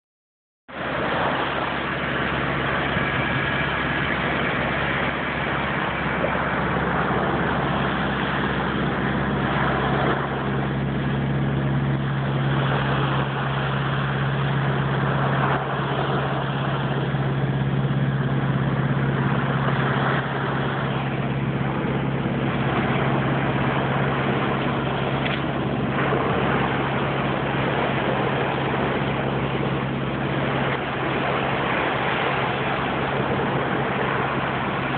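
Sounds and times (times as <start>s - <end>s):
small waves breaking on beach: 0.7s - 34.9s
steady low hum: 0.7s - 34.9s.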